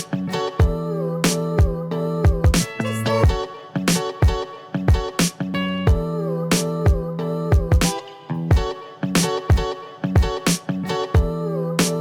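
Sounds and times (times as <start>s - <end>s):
background music with drum beat: 0.0s - 11.9s.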